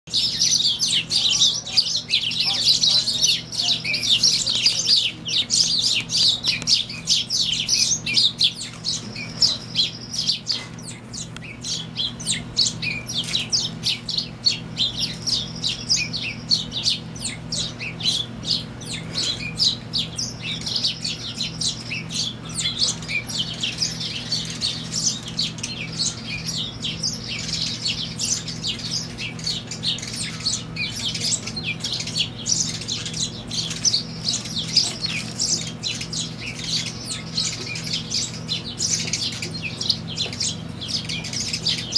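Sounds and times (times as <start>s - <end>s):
sparrows chirping: 0.1s - 41.9s
steady low hum: 0.1s - 41.9s.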